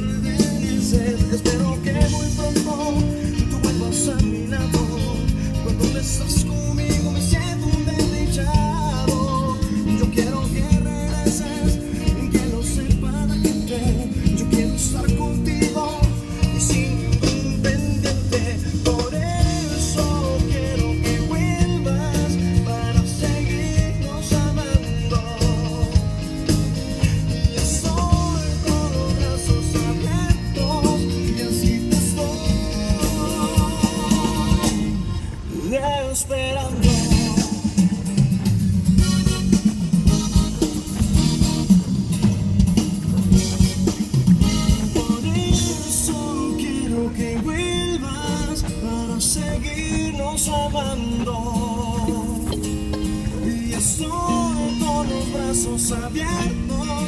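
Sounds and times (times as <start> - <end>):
love song with guitar and beat: 0.0 - 57.0.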